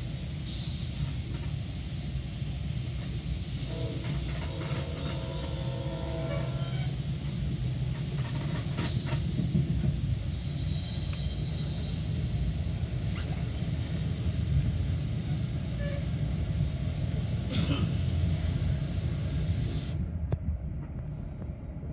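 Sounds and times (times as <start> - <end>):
train rumbling: 0.0 - 21.9.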